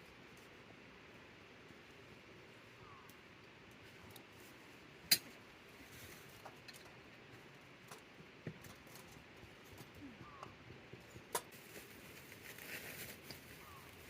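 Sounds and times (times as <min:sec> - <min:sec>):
small wood fire crackling: 0:00.0 - 0:14.0.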